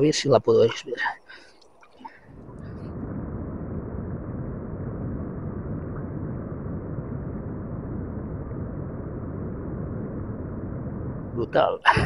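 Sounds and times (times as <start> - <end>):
underwater river rush: 0.0 - 12.0.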